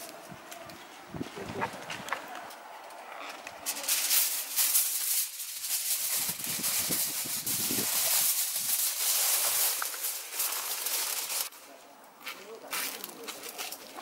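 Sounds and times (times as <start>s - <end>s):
aluminium foil crinkling: 1.6s - 14.0s.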